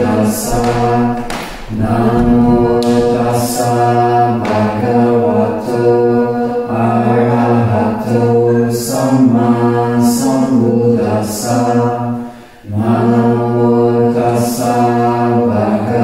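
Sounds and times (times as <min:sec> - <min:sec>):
voices chanting on a low pitch: 0:00.0 - 0:16.0.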